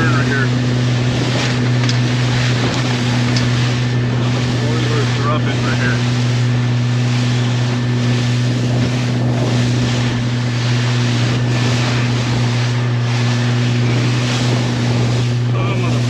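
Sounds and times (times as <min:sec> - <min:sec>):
motorboat engine drone: 0:00.0 - 0:16.0
water rushing: 0:00.0 - 0:16.0
wind: 0:00.0 - 0:16.0.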